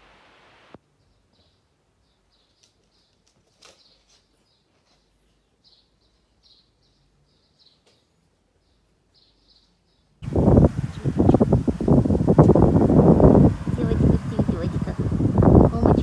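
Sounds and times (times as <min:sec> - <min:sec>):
faint birds chirping: 0:00.7 - 0:16.0.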